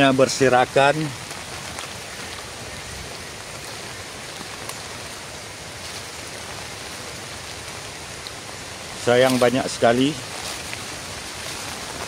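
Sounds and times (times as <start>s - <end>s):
rain falling on leaves: 0.0s - 12.0s.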